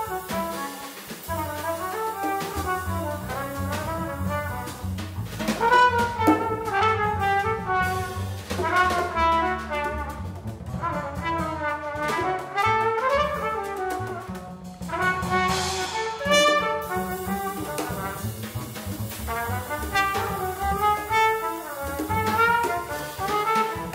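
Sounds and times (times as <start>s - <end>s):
drum kit and cymbal strikes: 0.0s - 10.4s, 14.4s - 23.9s
double bass: 0.0s - 23.9s
trumpet: 0.0s - 23.9s.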